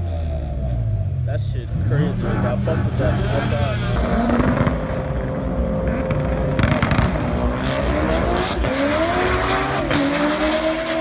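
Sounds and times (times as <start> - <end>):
drag car engine at full throttle: 0.0 - 11.0.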